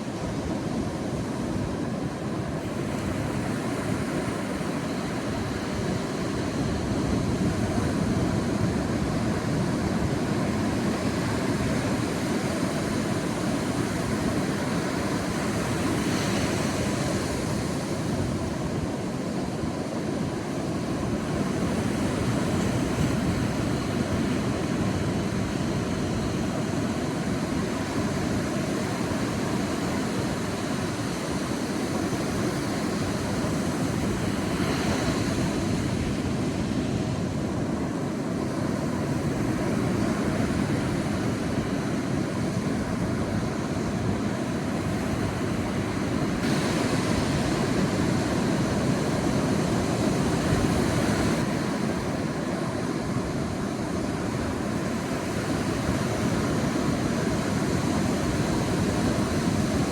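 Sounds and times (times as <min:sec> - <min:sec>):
sea waves washing on beach: 0:00.0 - 0:59.9.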